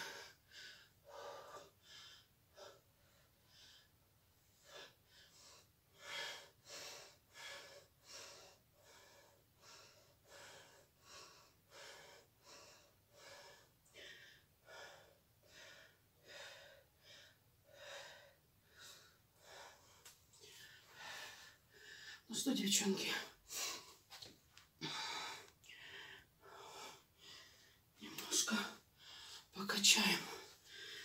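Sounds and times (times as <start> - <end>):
person breathing hard: 0.0 - 22.3, 24.8 - 27.9, 28.7 - 31.0.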